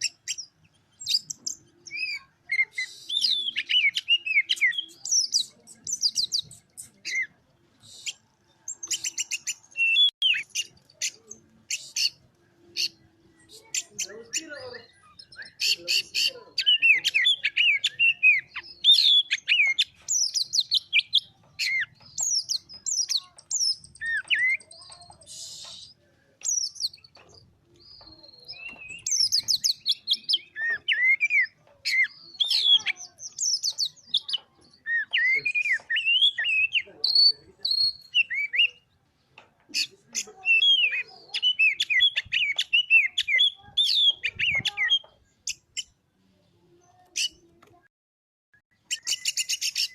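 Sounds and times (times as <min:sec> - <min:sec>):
bird singing: 0:00.0 - 0:46.0, 0:48.6 - 0:49.9.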